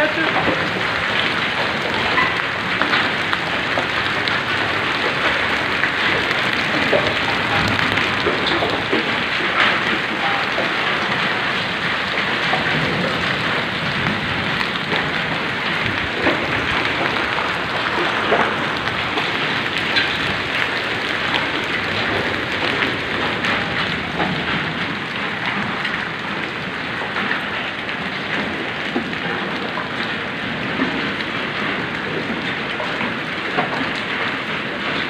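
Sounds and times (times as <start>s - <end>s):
hailstones striking the ground: 0.0s - 35.0s
heavy rain: 0.0s - 35.0s.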